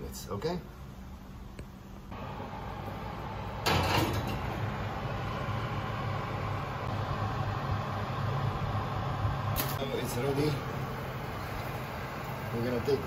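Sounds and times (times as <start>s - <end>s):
oven humming: 2.0s - 13.0s.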